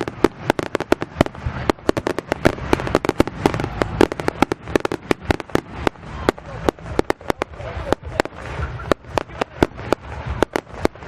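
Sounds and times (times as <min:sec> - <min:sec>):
fireworks cracking and banging: 0:00.0 - 0:11.0
low rumble: 0:00.0 - 0:11.0.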